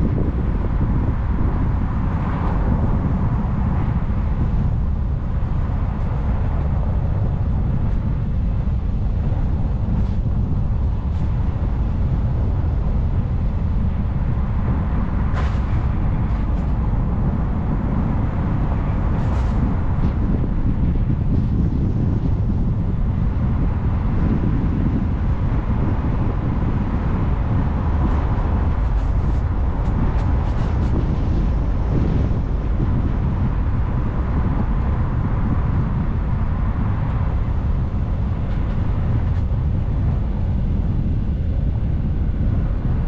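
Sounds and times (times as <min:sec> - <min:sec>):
car driving rumble: 0:00.0 - 0:43.0.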